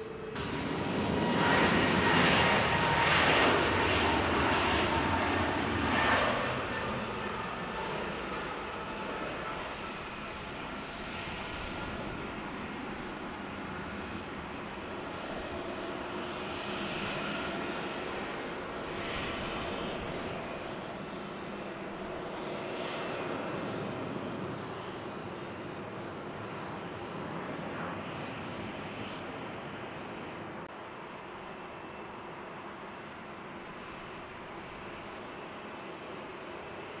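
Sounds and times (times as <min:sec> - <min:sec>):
jet airliner taking off: 0:00.0 - 0:37.0.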